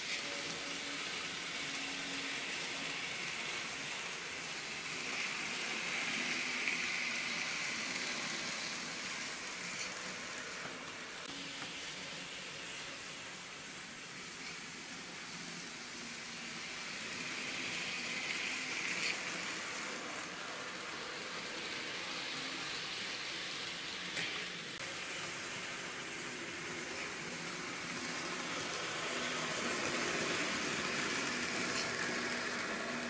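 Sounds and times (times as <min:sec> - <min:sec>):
model train wheels rattling on rails: 0:00.0 - 0:11.9, 0:13.6 - 0:33.0.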